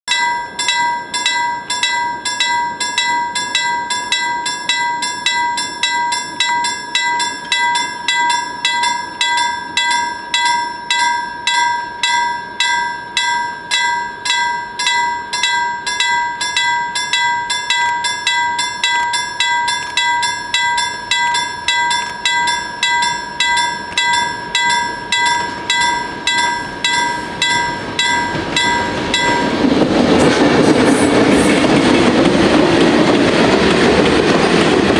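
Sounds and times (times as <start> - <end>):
diesel freight train approaching: 0.1 - 34.9
level crossing warning bell: 0.1 - 34.9.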